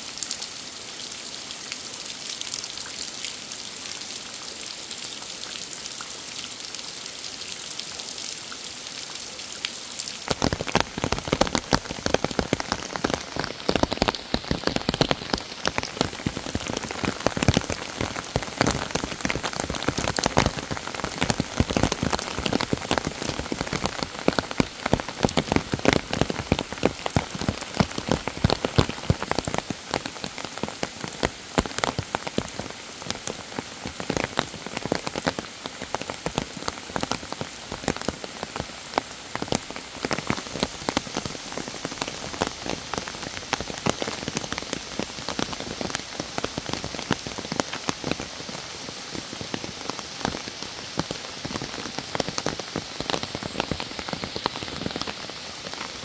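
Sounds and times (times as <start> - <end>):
raindrops striking close by: 0.0 - 56.0
steady rain hiss: 0.0 - 56.0.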